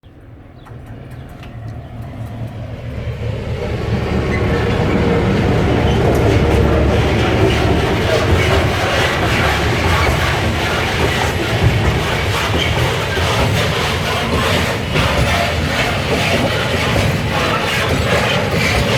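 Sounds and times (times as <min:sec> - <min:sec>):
diesel locomotive engine rumble: 0:00.0 - 0:18.9
train wheels clicking over rail joints: 0:00.3 - 0:18.9.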